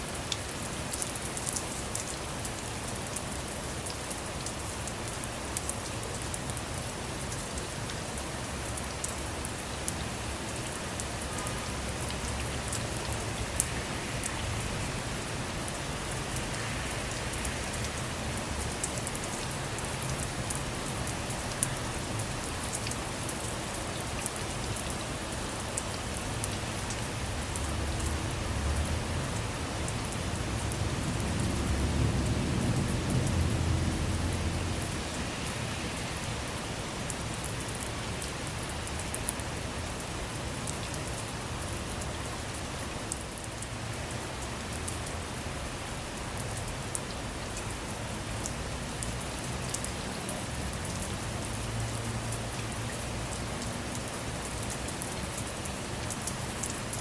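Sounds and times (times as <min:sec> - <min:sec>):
rain falling on a car: 0:00.0 - 0:57.0.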